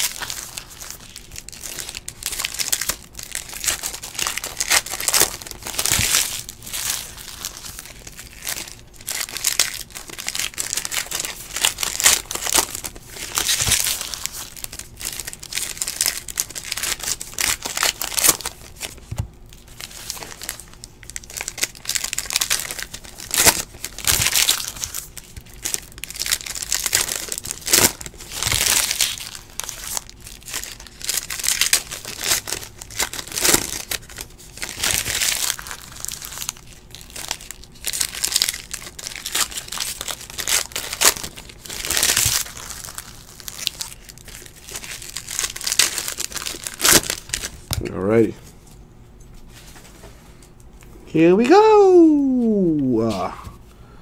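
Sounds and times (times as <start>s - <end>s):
plastic wrappers crinkling and tearing: 0.0s - 48.8s.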